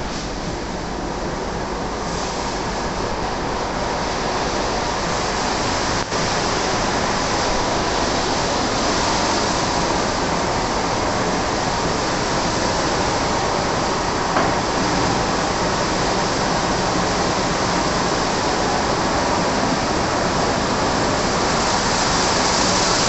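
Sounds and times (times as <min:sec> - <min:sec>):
car wash machinery: 0:00.0 - 0:23.0
water spray rushing: 0:02.0 - 0:23.0.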